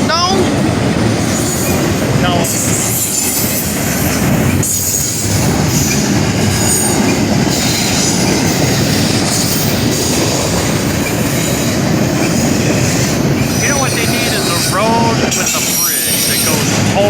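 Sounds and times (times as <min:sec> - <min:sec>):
train wheels rumbling on rails: 0:00.0 - 0:17.0
wheel squeal: 0:02.5 - 0:16.6.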